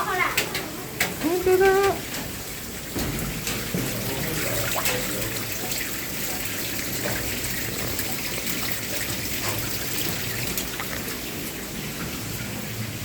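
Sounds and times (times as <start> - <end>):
water dripping: 0.0 - 13.0
water trickling: 0.0 - 13.0.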